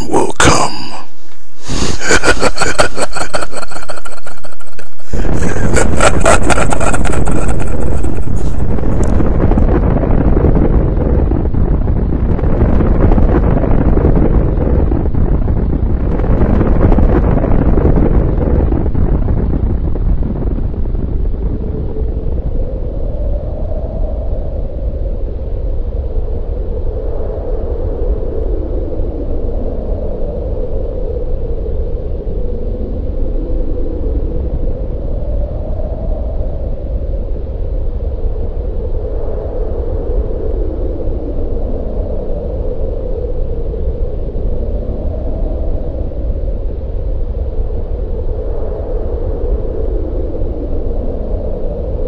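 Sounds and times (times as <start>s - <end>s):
deep continuous rumble: 0.0s - 52.0s
howling wind-like tone: 0.0s - 52.0s.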